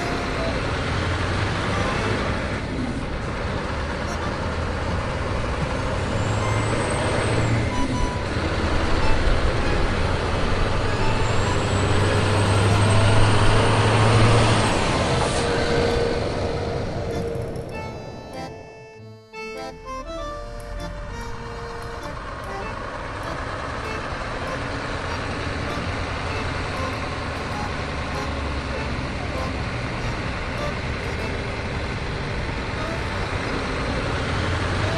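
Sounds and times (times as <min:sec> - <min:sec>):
heavy vehicle engine running: 0:00.0 - 0:34.9.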